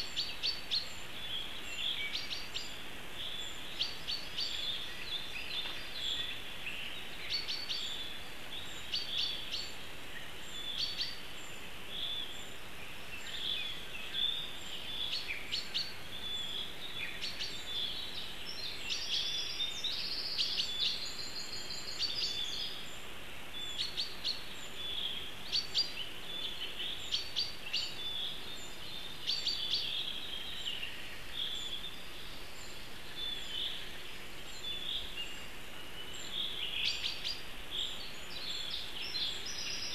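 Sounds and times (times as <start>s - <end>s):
songbirds chirping: 0.0s - 39.9s
steady outdoor hiss: 0.0s - 39.9s.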